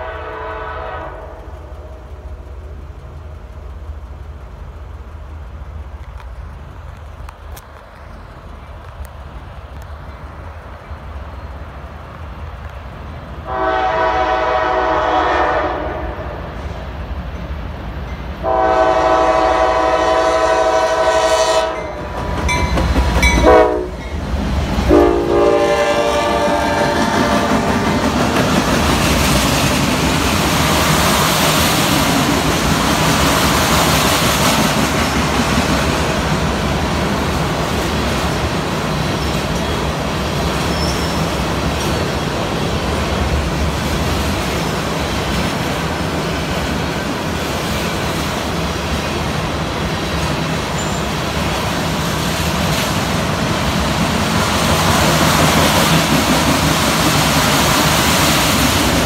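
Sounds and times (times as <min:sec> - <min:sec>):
train wheels rumbling and rattling: 0:00.0 - 0:59.0.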